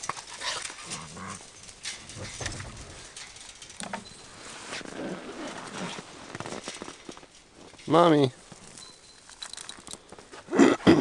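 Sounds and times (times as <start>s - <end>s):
rustles: 0.0s - 11.0s.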